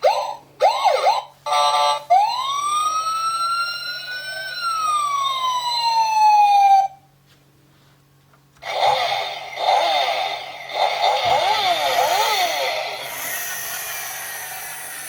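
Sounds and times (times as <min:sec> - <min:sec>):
electronic toy siren: 0:00.0 - 0:07.0, 0:08.6 - 0:15.0.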